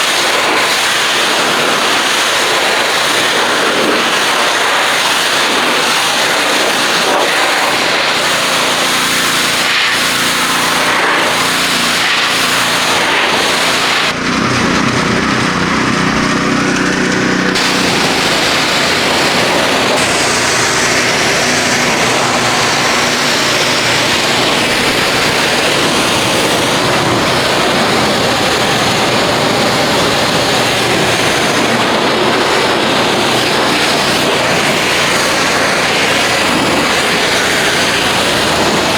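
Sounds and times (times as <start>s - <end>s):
water spray hissing: 0.0s - 14.2s, 17.5s - 38.9s
pressure washer engine running: 0.0s - 38.9s.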